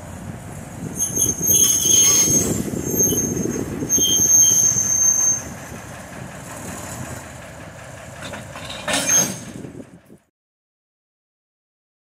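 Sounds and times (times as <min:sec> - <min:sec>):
low rolling rumble: 0:00.0 - 0:10.3
train wheels squealing on rails: 0:00.5 - 0:10.3.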